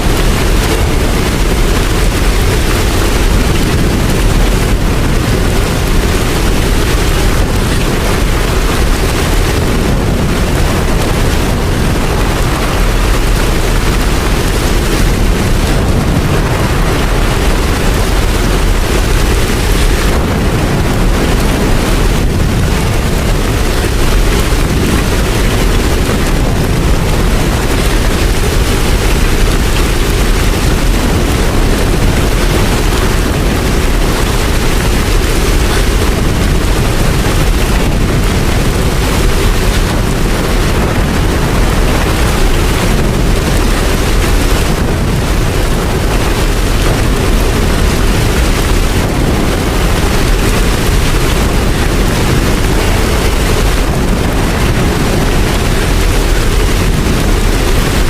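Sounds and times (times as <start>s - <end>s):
deep rumble: 0.0s - 58.0s
heavy rain hissing: 0.0s - 58.0s.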